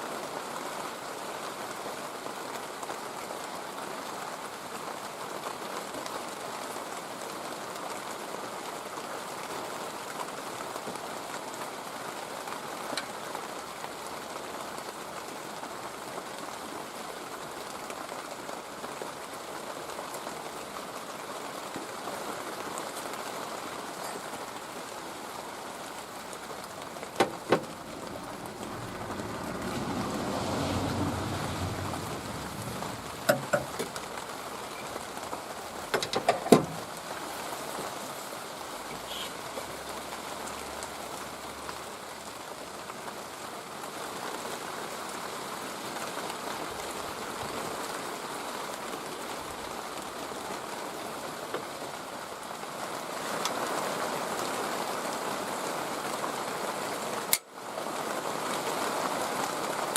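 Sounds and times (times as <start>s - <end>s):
steady rain-like noise: 0.0s - 59.9s.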